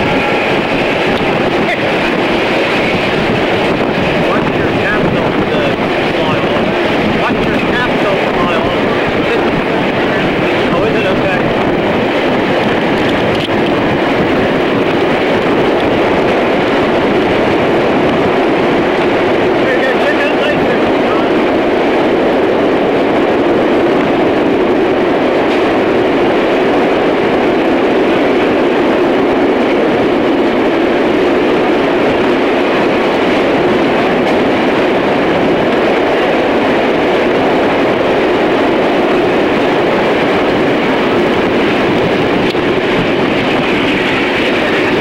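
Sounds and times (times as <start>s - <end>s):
steam train rumbling in tunnel: 0.0s - 45.0s.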